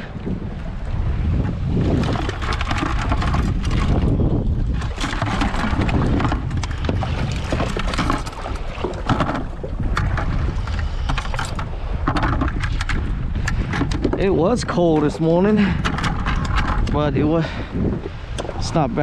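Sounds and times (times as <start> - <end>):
water splashing against hull: 0.0 - 19.0
wind buffeting microphone: 0.0 - 19.0.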